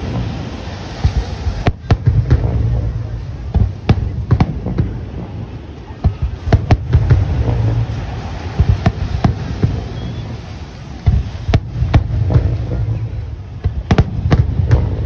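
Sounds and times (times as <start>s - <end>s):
fireworks bursting with sharp bangs: 0.0s - 15.0s
steady low rumble: 0.0s - 15.0s.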